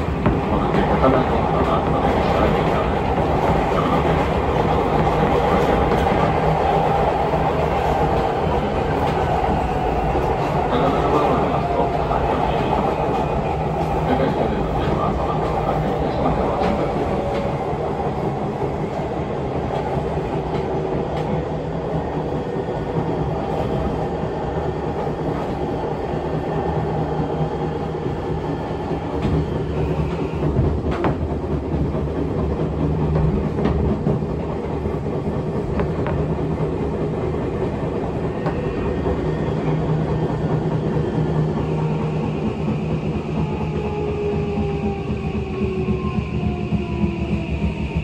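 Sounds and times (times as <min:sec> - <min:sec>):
train running rumble: 0:00.0 - 0:48.0.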